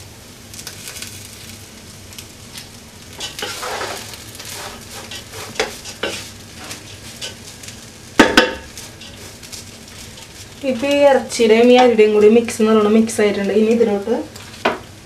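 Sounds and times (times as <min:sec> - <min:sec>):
rice sizzling and scraping in pot: 0:00.2 - 0:15.0.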